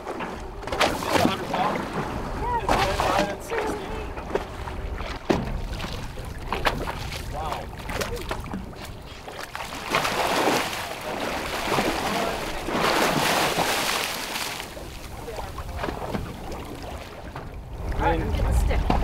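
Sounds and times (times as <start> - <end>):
fish thrashing and splashing water: 0.0 - 17.4.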